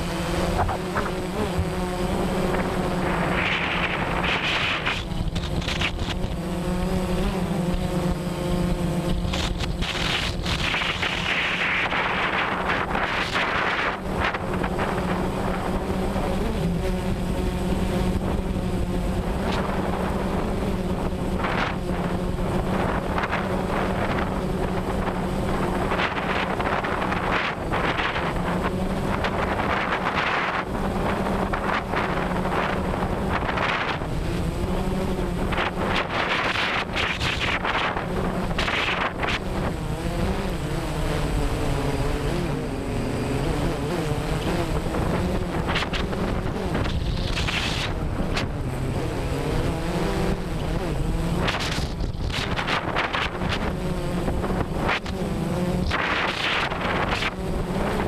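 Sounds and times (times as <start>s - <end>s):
drone motors humming: 0.0s - 58.0s
wind on microphone: 0.0s - 58.0s.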